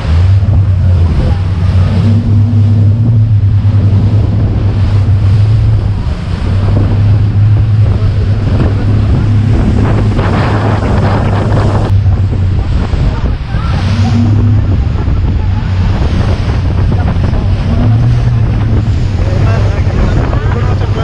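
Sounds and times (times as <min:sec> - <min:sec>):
boat engine droning: 0:00.0 - 0:21.0
water: 0:00.0 - 0:21.0
wind buffeting microphone: 0:00.0 - 0:21.0.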